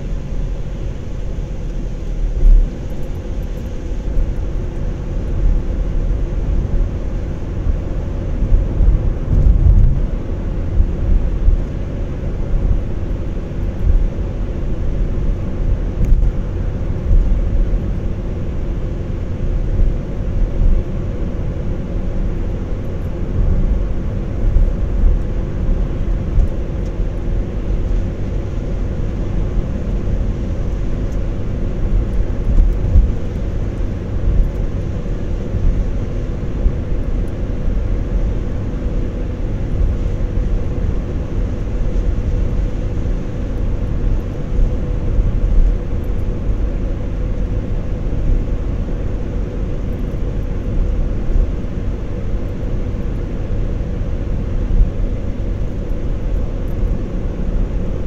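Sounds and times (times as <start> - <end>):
faint steady hum: 0.0 - 58.0
tyres and engine rumble: 0.0 - 58.0.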